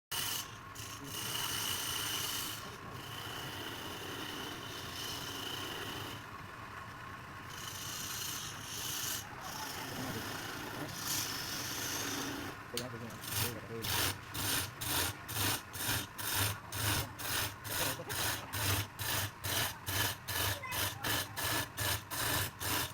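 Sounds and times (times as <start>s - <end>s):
lathe tool scraping wood: 0.1s - 6.3s, 7.5s - 22.9s.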